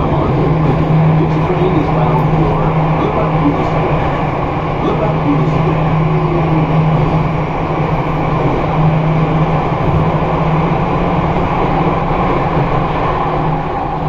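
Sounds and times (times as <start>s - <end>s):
low hum: 0.0s - 14.0s
train wheels rumbling on rail: 0.0s - 14.0s.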